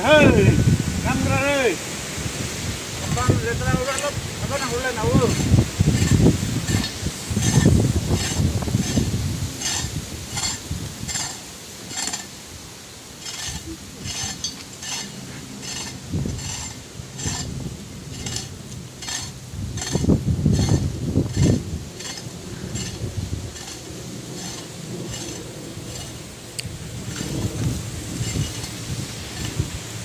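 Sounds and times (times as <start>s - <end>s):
hoe scraping and chopping soil: 3.0s - 30.0s.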